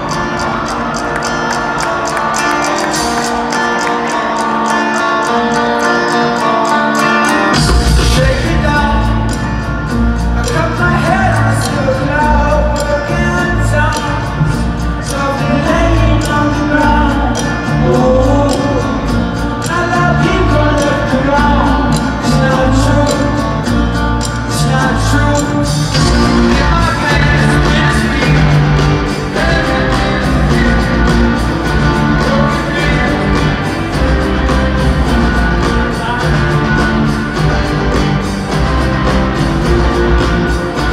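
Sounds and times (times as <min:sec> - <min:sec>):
rock band playing live: 0:00.0 - 0:40.9
person singing: 0:06.4 - 0:40.9
steady drum beat: 0:07.5 - 0:40.9.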